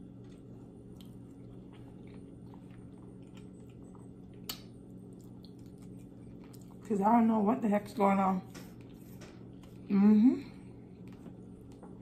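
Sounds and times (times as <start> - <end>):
soft wet chewing: 0.0 - 7.2, 8.4 - 12.0
faint low hum: 0.0 - 12.0.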